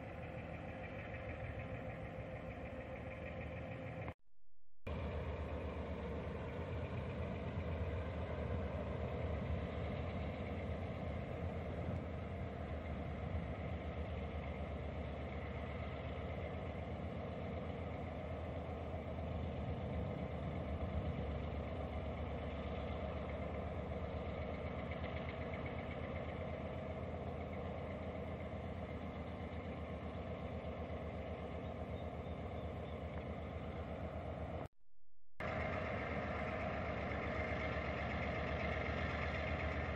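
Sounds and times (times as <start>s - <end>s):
diesel locomotive engine idling: 0.0s - 4.2s, 4.9s - 34.7s, 35.4s - 39.9s.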